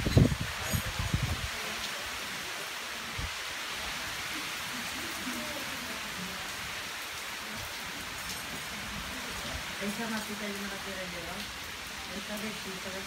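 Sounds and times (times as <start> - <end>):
steady rain pouring on lawn: 0.0 - 13.0.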